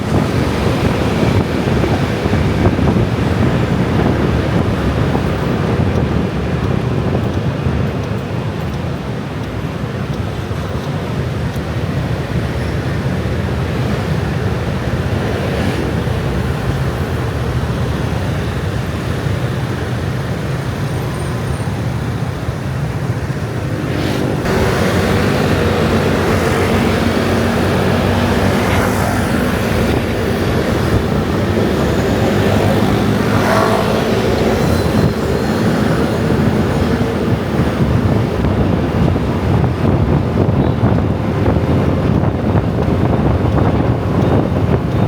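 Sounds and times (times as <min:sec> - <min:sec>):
scooter traffic drone: 0:00.0 - 0:45.0.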